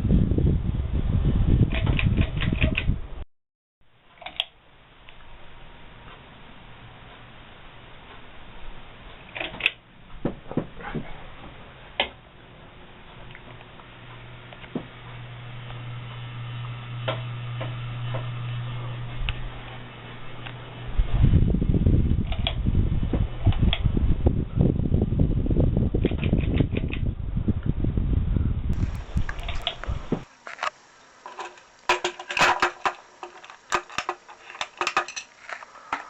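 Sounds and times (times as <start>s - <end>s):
ceiling fan motor hum: 0.0s - 3.2s, 3.9s - 36.0s
low rumble with crackle: 4.7s - 36.0s.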